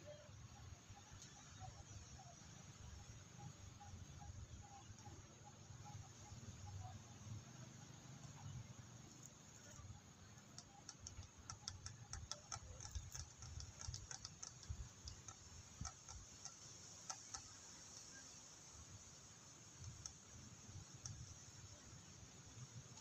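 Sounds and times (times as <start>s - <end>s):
faint irregular clicking: 0.1s - 23.0s.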